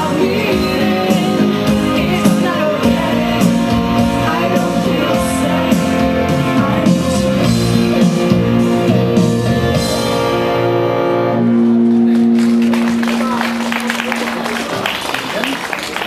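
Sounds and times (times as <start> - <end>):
electric guitar chord ringing: 0.0 - 14.6
live rock band: 0.0 - 14.9.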